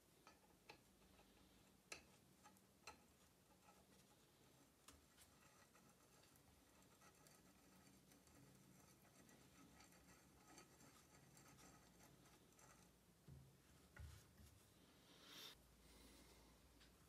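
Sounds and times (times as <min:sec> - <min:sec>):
faint scrapes and clicks of wing nut: 0:00.2 - 0:14.6.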